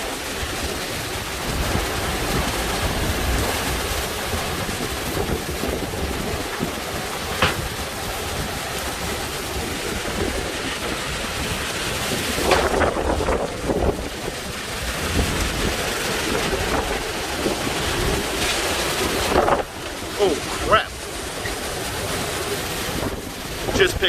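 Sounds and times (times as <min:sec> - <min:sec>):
hurricane wind buffeting microphone: 0:00.0 - 0:24.0
rain: 0:00.0 - 0:24.0.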